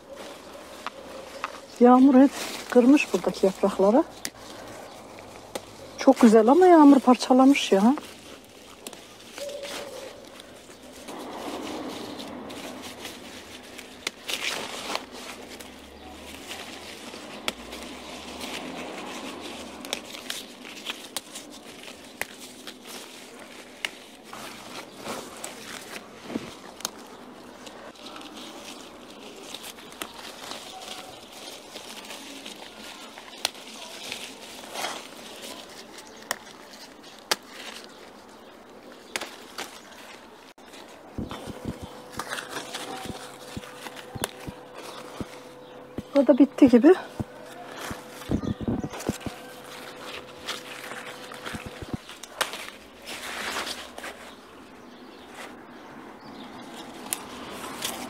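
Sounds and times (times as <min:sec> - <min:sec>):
stems snapping: 0:00.0 - 0:55.7, 0:56.3 - 0:58.0
leaves rustling: 0:00.0 - 0:58.0
plastic bag crinkling: 0:00.0 - 0:58.0.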